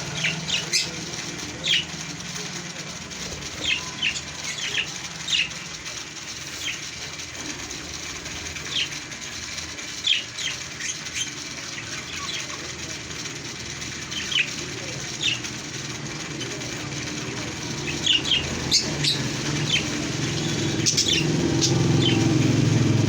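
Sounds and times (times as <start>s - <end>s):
parrots chirping: 0.0s - 2.6s, 3.2s - 7.1s, 8.4s - 9.0s, 9.7s - 12.7s, 13.5s - 23.0s.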